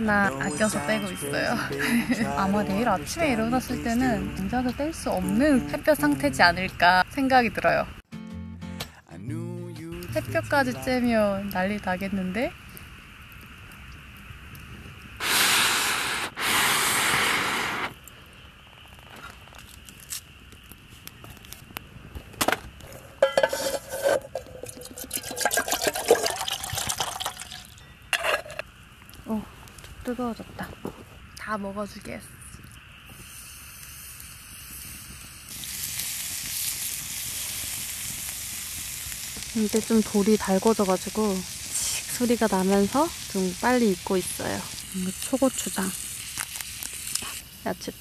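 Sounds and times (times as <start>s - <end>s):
meat sizzling on hot stone: 0.0s - 7.8s, 10.2s - 18.1s, 22.8s - 29.4s, 30.0s - 48.0s.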